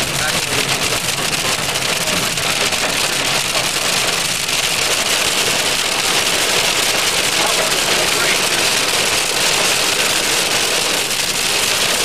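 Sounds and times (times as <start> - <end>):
hail pelting car roof: 0.0 - 12.0
moving car hum: 0.0 - 12.0.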